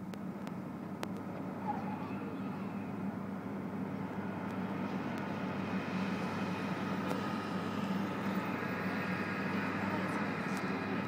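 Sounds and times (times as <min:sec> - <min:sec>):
city traffic drone: 0:00.0 - 0:11.0.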